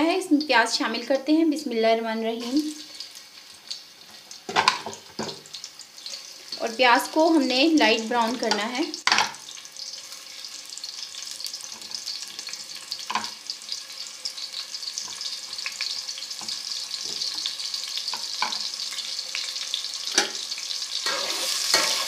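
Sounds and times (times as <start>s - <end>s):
onions sizzling: 0.1s - 22.0s.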